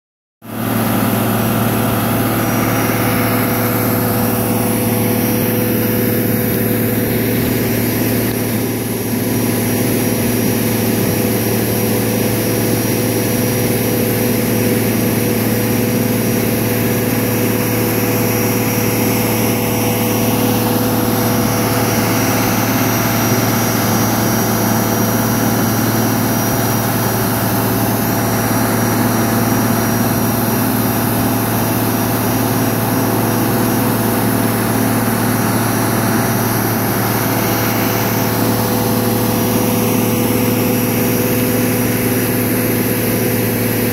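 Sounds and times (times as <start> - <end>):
grain conveyor machinery drone: 0.4 - 43.9.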